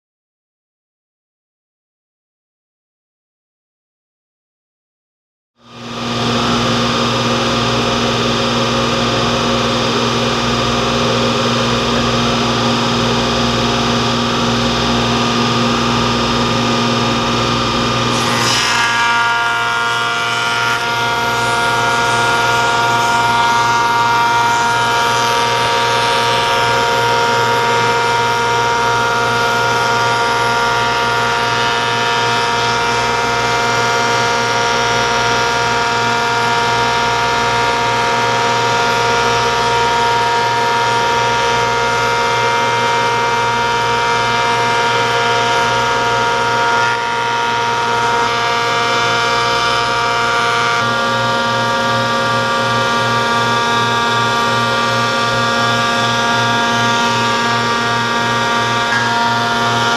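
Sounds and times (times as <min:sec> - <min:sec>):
planer-moulder motor humming: 0:05.8 - 0:59.9.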